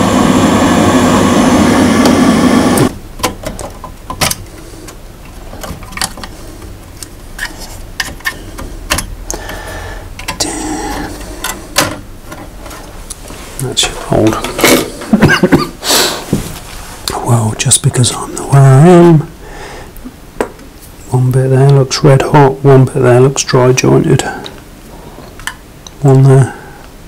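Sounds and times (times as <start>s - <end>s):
boiler fan buzzing: 0.0s - 27.0s.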